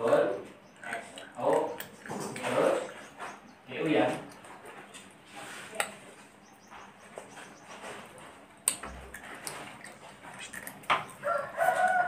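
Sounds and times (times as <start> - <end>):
child chewing: 0.7 - 12.0.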